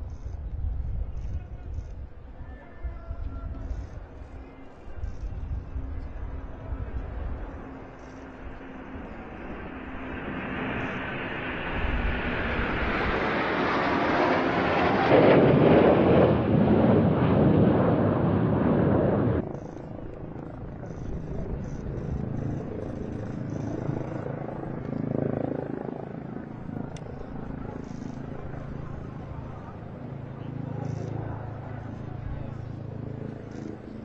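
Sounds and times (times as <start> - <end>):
jets passing overhead: 5.3 - 34.0.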